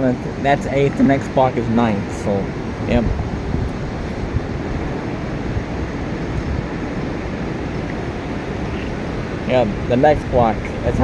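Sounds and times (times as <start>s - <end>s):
low rumble of city traffic: 0.0s - 11.0s.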